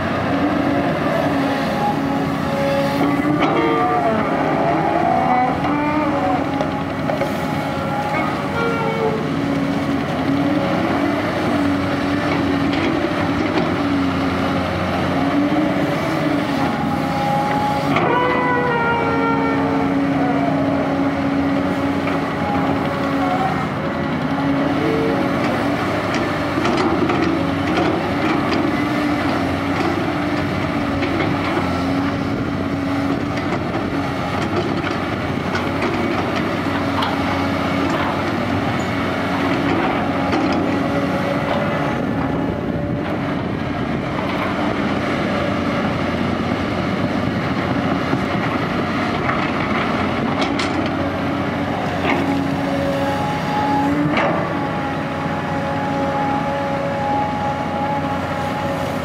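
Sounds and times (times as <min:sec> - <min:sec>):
excavator diesel engine working: 0:00.0 - 0:59.0.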